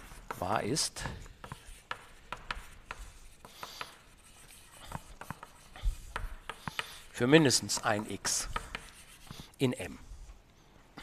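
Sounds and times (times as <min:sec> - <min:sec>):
chalk tapping and scratching on board: 0:00.0 - 0:10.2.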